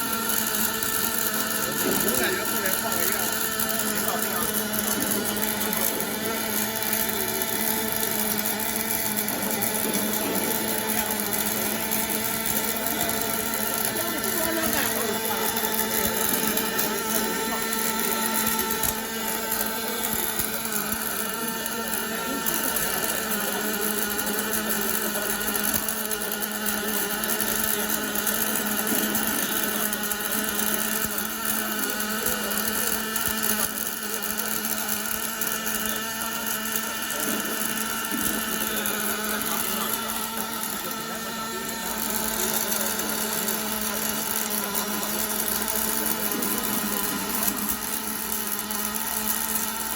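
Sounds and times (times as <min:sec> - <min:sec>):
machine hum: 0:00.0 - 0:49.9
welding arc hissing: 0:00.0 - 0:49.9.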